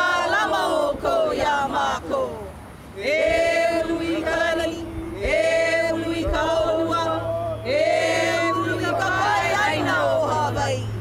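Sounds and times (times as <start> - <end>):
group of voices singing: 0.0 - 11.0.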